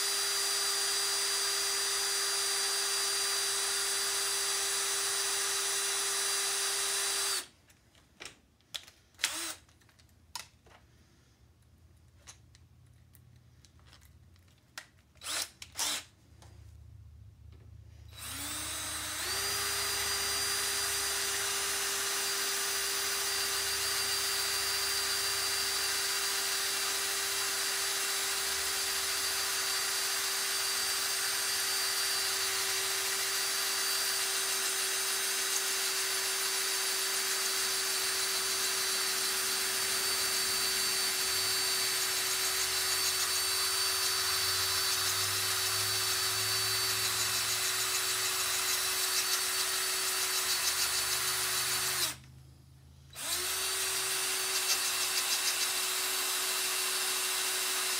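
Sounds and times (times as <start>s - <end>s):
cordless drill motor whine: 0.0s - 7.5s, 9.2s - 9.6s, 15.2s - 16.1s, 18.1s - 52.2s, 53.1s - 57.9s
drill bit grinding into steel screw: 0.0s - 7.5s, 9.2s - 9.6s, 15.2s - 16.1s, 18.1s - 52.3s, 53.1s - 57.9s.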